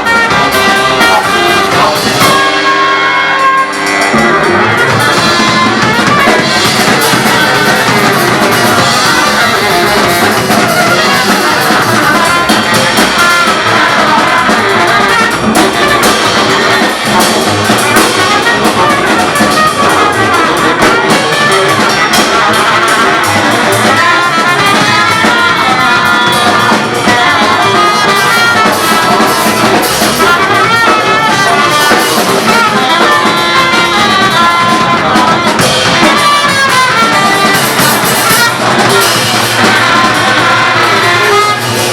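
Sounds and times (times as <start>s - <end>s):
drum kit: 0.0s - 41.9s
horns: 0.0s - 41.9s
live band playing: 0.0s - 41.9s.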